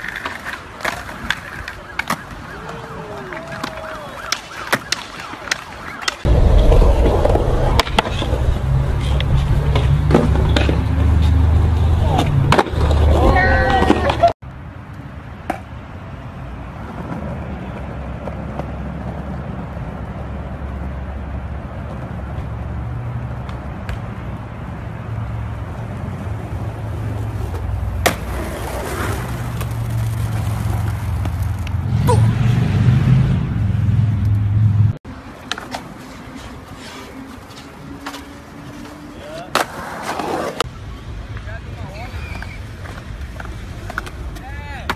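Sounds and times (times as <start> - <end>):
skateboard rolling rumble: 0.0 - 5.2, 6.2 - 14.3, 16.6 - 44.6.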